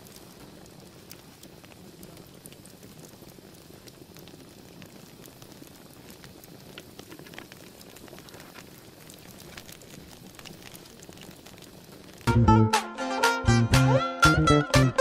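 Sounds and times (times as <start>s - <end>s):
wood fire crackling and popping: 0.0s - 12.4s.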